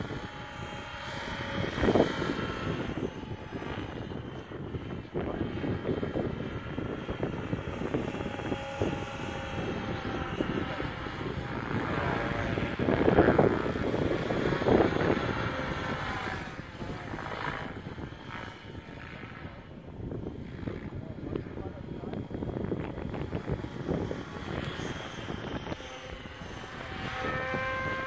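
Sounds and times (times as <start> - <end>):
helicopter rotor whoosh: 0.0 - 28.0
motor and gear whine: 0.0 - 28.0.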